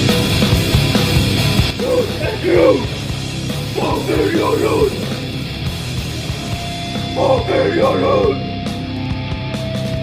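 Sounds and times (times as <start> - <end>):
heavy rock band playing: 0.0 - 10.0.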